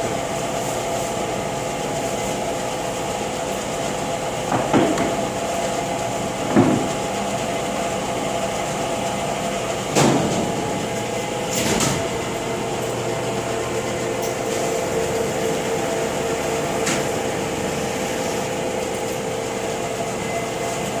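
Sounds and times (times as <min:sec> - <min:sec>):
lathe humming with gear whine: 0:00.0 - 0:10.0, 0:12.1 - 0:21.0.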